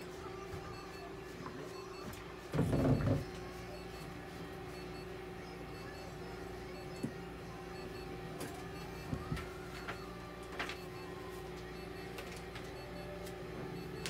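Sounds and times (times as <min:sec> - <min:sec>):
electrical equipment hum: 0:00.0 - 0:14.0.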